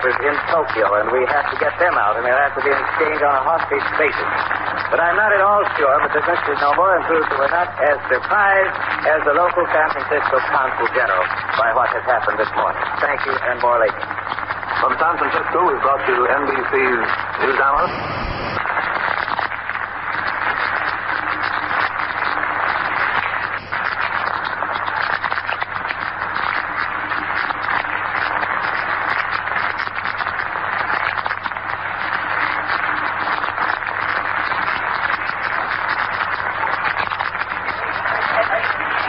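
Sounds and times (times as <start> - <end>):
low steady hum: 0.0 - 39.0
radio static and hiss: 0.0 - 39.0.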